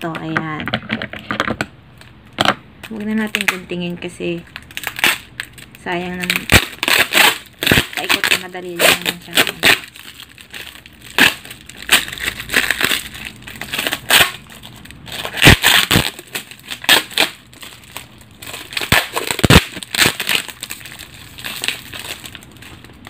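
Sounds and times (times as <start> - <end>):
packing tape peeling and crackling: 0.5 - 23.0.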